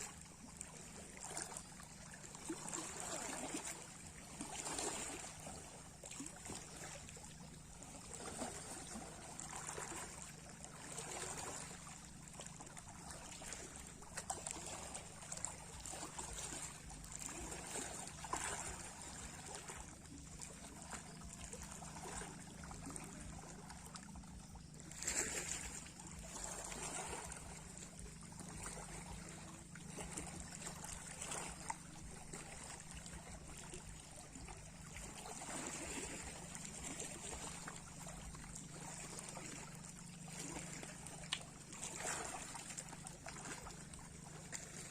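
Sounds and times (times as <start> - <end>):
small sea waves lapping: 0.0 - 44.9.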